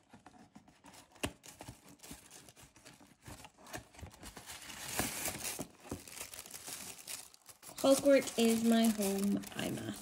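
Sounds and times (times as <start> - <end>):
tissue paper rustling: 0.8 - 10.0.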